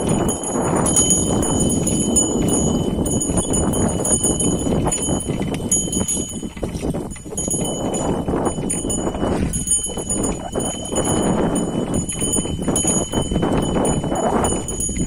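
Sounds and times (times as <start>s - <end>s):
harrow scraping and rattling: 0.0s - 15.0s
shuffling hoof steps: 0.0s - 15.0s.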